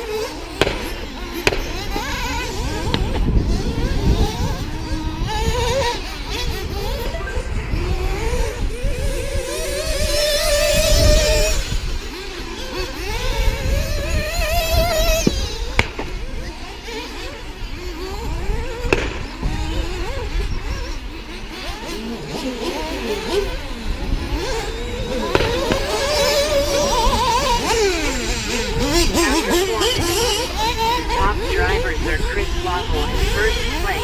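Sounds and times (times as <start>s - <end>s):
model car motors whining: 0.0s - 34.0s
wind rumble on microphone: 0.0s - 34.0s.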